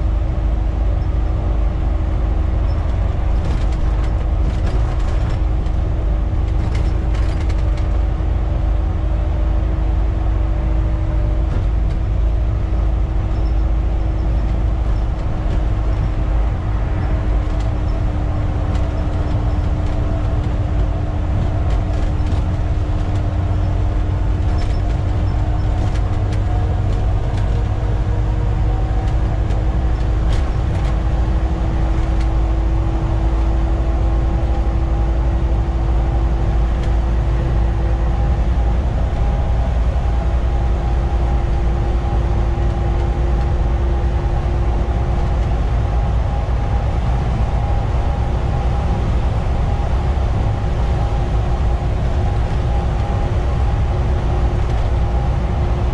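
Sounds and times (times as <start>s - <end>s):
bus diesel engine running: 0.0s - 55.9s
road noise: 0.0s - 55.9s.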